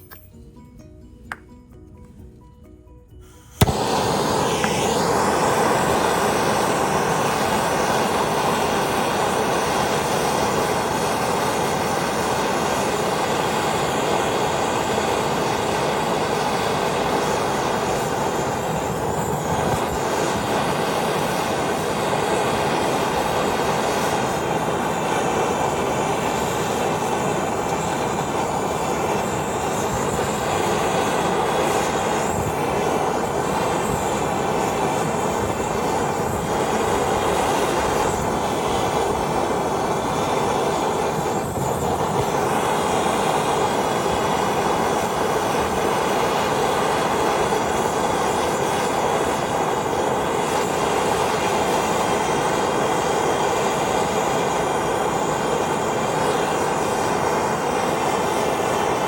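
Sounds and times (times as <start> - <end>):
gas torch rushing: 3.2 - 59.0.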